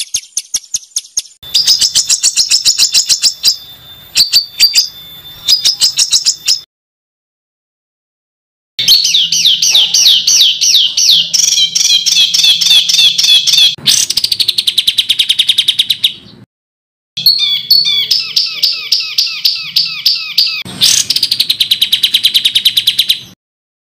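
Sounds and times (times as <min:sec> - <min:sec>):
songbird song with rapid notes: 0:00.0 - 0:06.7, 0:08.8 - 0:16.4, 0:17.2 - 0:23.4.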